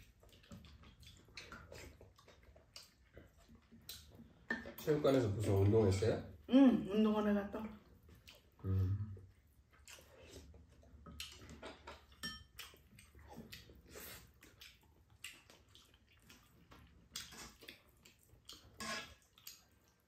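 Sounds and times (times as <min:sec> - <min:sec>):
noodles being slurped and chewed: 0:00.0 - 0:05.6, 0:07.8 - 0:20.0.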